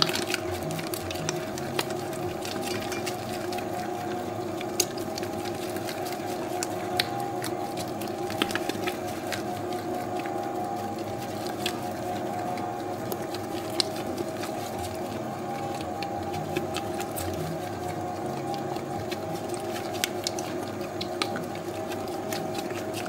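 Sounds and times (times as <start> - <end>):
dough mixer motor hum: 0.0 - 23.0.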